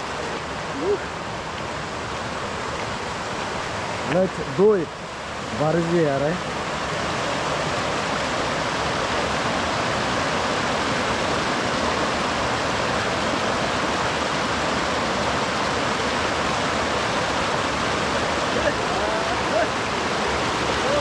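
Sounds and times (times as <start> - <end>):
river rushing over boulders: 0.0 - 21.0.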